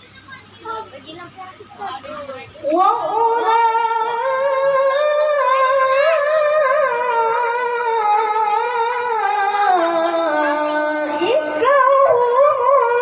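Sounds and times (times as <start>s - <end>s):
boy reciting melodically: 0.0s - 13.0s.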